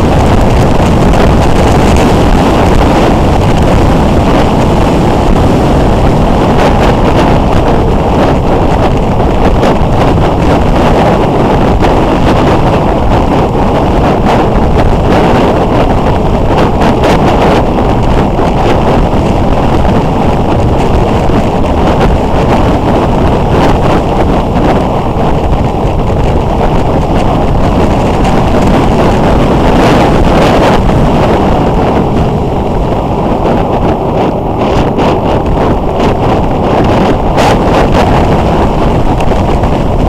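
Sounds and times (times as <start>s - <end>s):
motorcycle engine running: 0.0s - 40.0s
wind rushing on microphone: 0.0s - 40.0s.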